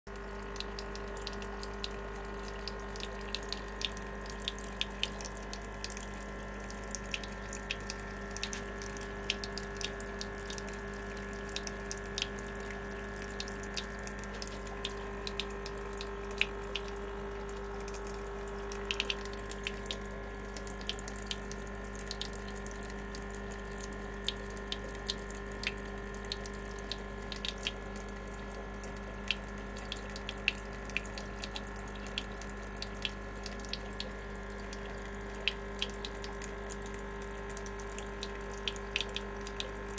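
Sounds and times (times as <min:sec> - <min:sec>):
steady hum: 0:00.1 - 0:39.9
water trickling and dripping: 0:00.1 - 0:39.9.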